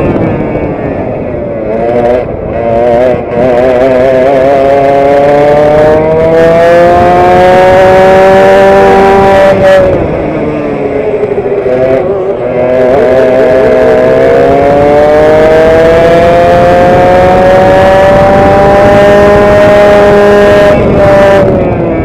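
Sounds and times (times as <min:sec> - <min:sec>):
kart engine at full throttle: 0:00.0 - 0:22.0.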